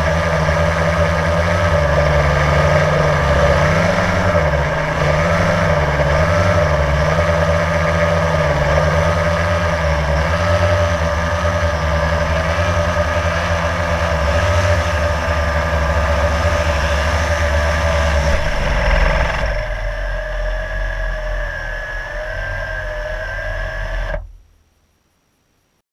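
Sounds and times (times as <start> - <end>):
drone propellers whining: 0.0 - 24.4.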